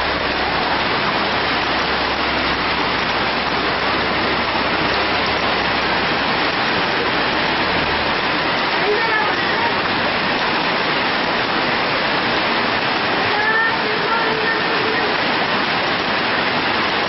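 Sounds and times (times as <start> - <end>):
heavy rain pouring: 0.0 - 17.0
runoff water rushing: 0.0 - 17.0.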